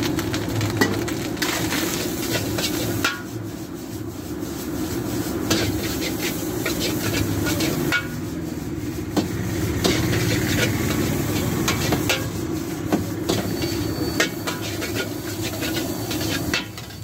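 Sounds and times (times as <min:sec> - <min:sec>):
gas burner rumble: 0:00.0 - 0:17.0
metal spatula scraping a wok: 0:01.4 - 0:17.0.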